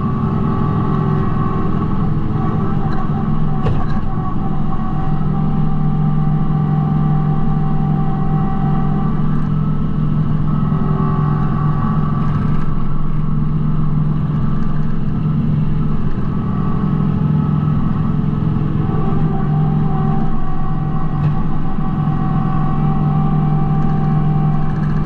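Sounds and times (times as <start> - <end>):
high engine whine: 0.0 - 25.0
tractor diesel engine running: 0.0 - 25.0.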